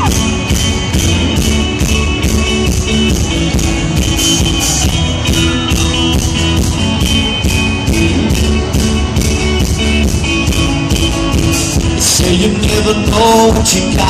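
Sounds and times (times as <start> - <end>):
guitars: 0.0 - 14.0
steady drum beat: 0.0 - 14.0.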